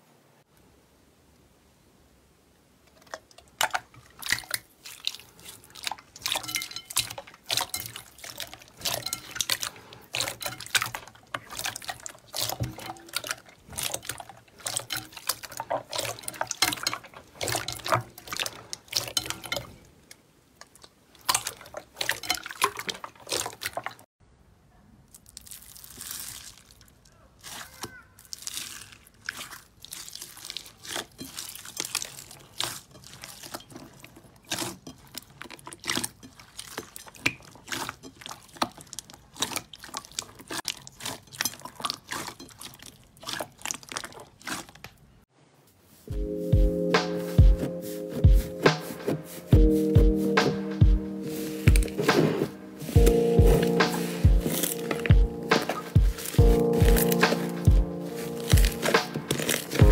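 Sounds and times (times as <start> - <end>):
slime crackling softly: 2.9 - 24.1, 25.0 - 46.1, 51.2 - 59.9
hands squishing wet slime: 3.0 - 24.1, 25.1 - 45.2, 46.9 - 59.9.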